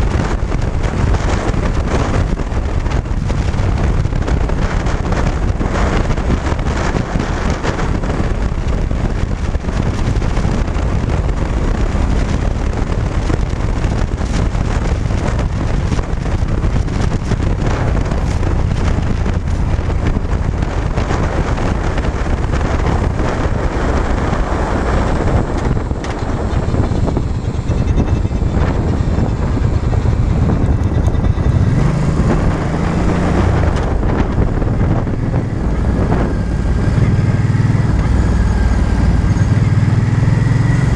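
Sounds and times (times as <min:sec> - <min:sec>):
motorcycle engine rumble: 0:00.0 - 0:40.9
wind buffeting microphone: 0:00.0 - 0:40.9.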